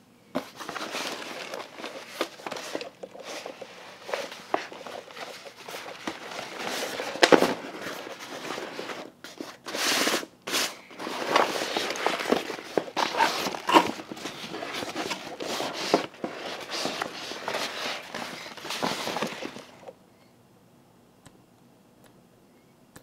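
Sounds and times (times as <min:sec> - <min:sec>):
fabric bag crinkling and rustling: 0:00.4 - 0:09.6, 0:10.5 - 0:19.9.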